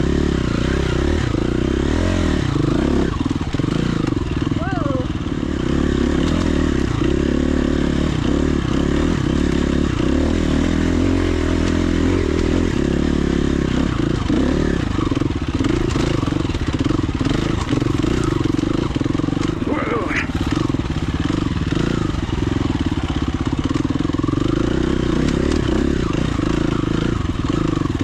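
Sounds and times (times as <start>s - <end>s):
motorcycle engine running: 0.0s - 28.0s
motorcycle rattling over rough ground: 0.0s - 28.0s.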